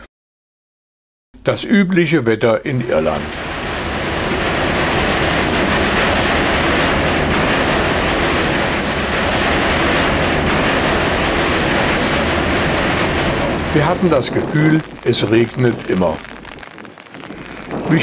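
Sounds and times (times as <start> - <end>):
heavy rain on a windscreen: 2.9 - 18.0.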